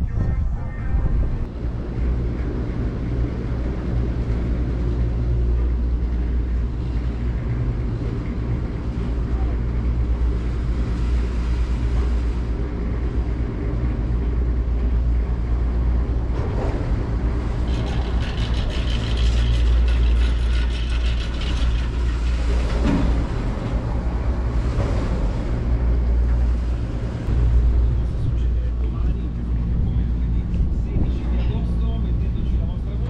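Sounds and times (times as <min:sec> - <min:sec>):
low machinery hum: 0:00.0 - 0:33.0.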